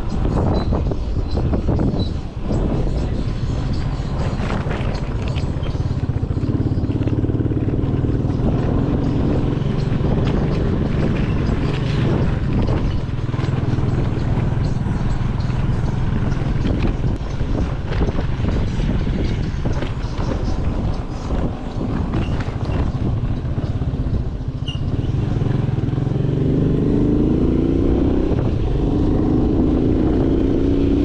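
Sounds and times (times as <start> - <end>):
vehicle engine running: 0.0 - 31.0
wind on microphone: 0.0 - 31.0.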